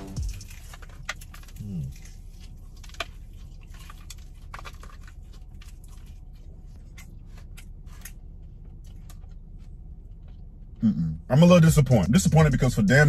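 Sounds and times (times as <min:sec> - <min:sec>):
person chewing crunchy food: 0:00.0 - 0:10.8
steady low hum: 0:00.0 - 0:13.0.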